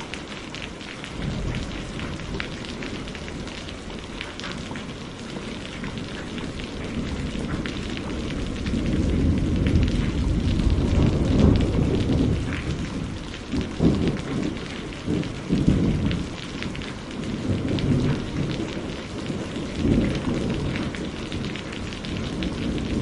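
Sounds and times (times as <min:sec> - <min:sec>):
heavy rain falling: 0:00.0 - 0:23.0
low roll of thunder: 0:00.0 - 0:23.0.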